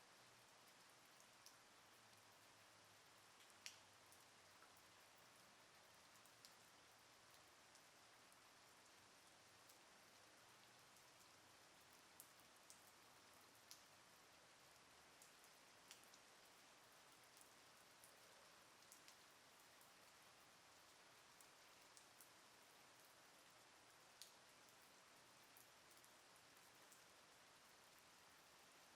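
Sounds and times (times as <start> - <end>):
light rain hiss: 0.0 - 28.9.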